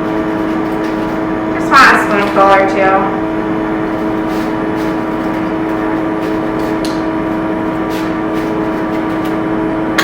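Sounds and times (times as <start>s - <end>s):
mechanical hum with tones: 0.0s - 10.0s.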